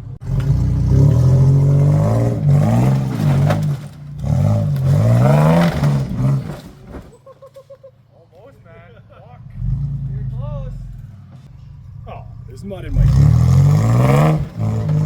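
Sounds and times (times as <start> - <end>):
off-road vehicle engine revving: 0.0 - 7.1, 8.5 - 15.0.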